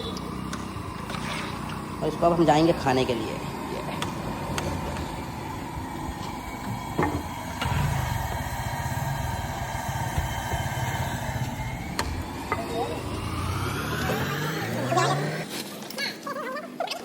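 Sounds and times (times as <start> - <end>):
low engine rumble: 0.0 - 15.6.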